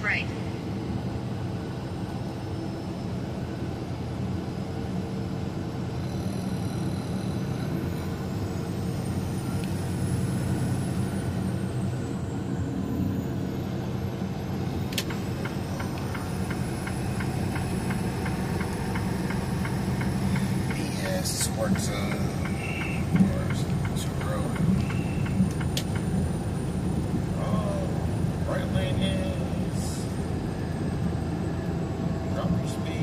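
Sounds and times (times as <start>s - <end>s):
road noise: 0.0s - 33.0s
truck engine drone: 0.0s - 33.0s.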